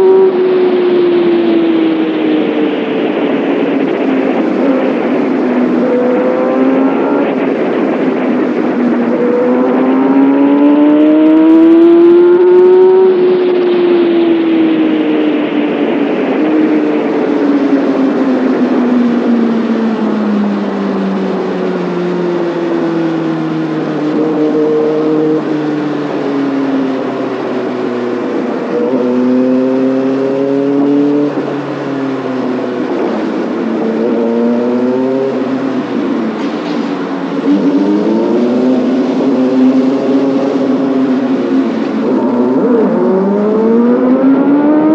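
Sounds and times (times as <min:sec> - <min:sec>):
motorcycle engine and exhaust: 0:00.0 - 0:44.9.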